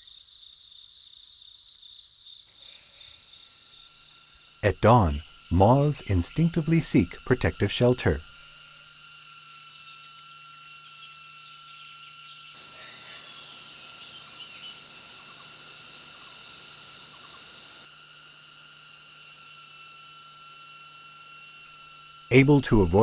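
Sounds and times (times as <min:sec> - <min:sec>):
high-pitched insect drone: 0:00.0 - 0:23.0
faint chirps: 0:02.4 - 0:23.0.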